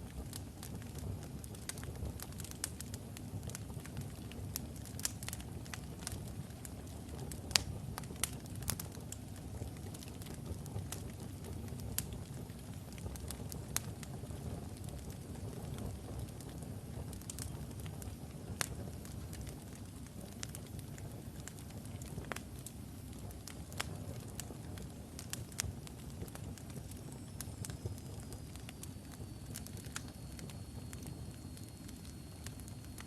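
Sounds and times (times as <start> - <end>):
flames rumbling: 0.0 - 33.0
wood fire crackling and popping: 0.0 - 33.0.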